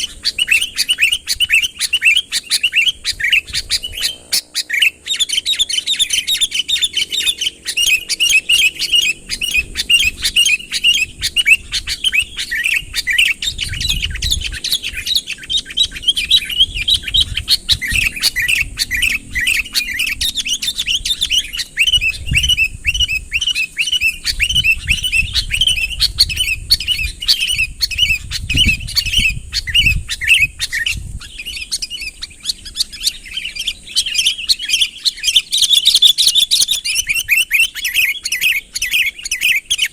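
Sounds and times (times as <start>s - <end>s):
bulbul rapid chirping: 0.0s - 39.9s.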